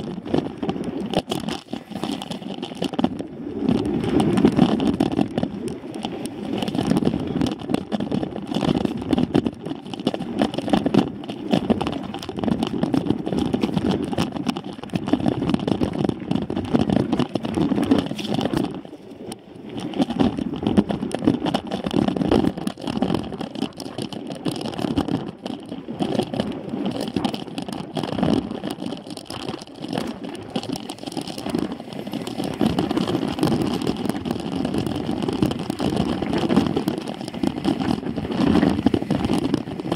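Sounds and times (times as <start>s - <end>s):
bike rattling over bumps: 0.0s - 39.9s
wind on microphone: 0.0s - 39.9s.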